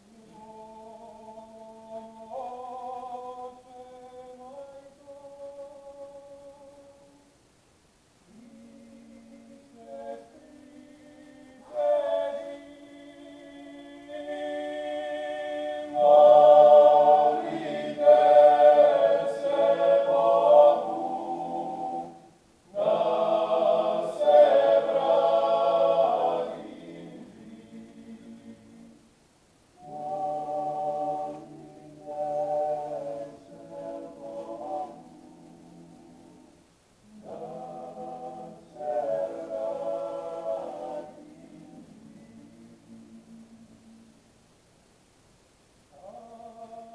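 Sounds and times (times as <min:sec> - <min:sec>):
male choir singing in harmony: 0:00.0 - 0:07.2, 0:08.3 - 0:29.1, 0:29.8 - 0:44.1, 0:45.9 - 0:46.9.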